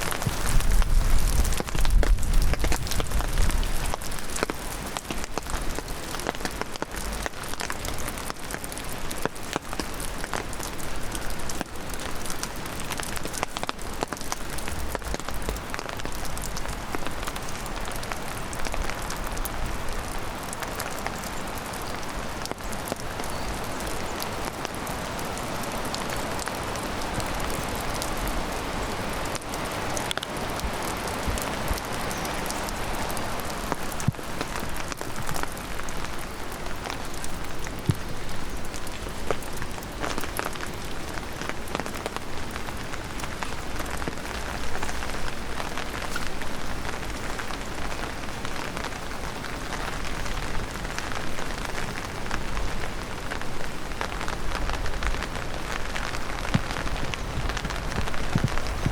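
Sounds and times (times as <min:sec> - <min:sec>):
heavy rain hiss: 0:00.0 - 0:58.9
raindrops ticking close by: 0:00.0 - 0:58.9.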